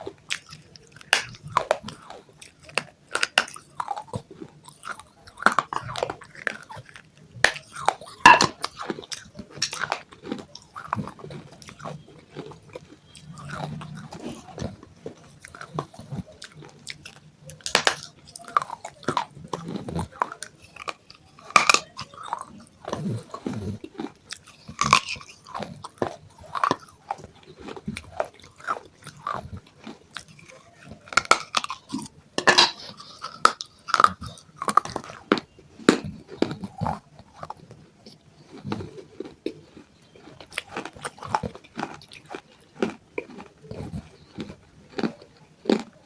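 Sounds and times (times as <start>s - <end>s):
crunchy biting and chewing: 0.0s - 46.0s.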